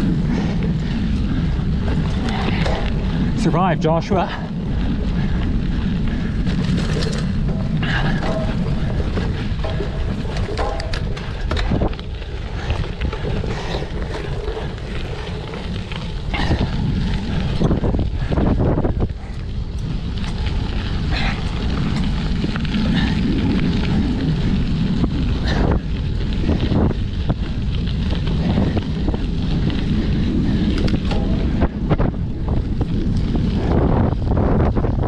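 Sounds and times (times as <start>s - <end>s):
bike knocks and rattles: 0.0s - 35.0s
steady low rumble: 0.0s - 35.0s
wind buffeting microphone: 0.0s - 35.0s.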